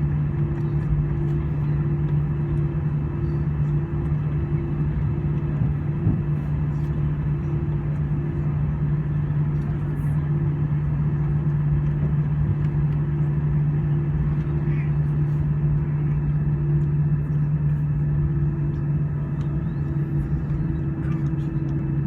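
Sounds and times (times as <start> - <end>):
jet engine cabin drone: 0.0 - 22.0.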